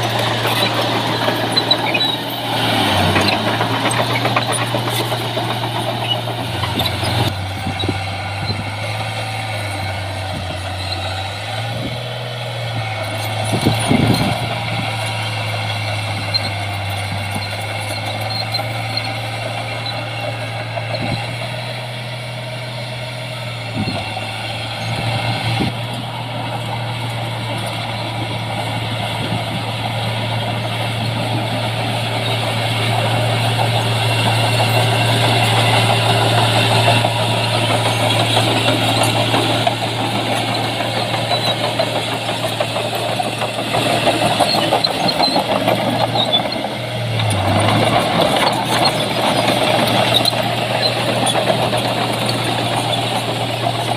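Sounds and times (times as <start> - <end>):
heavy diesel engine humming: 0.0 - 53.9.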